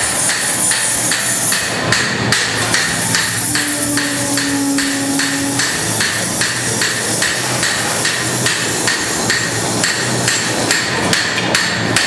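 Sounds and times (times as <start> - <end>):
hammer blows on cymbal bronze: 0.3 - 10.9.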